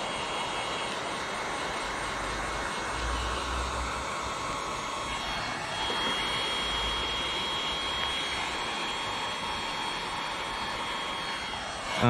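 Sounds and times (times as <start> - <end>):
heat gun blowing air: 0.0 - 12.0
steady high whine: 0.0 - 12.0.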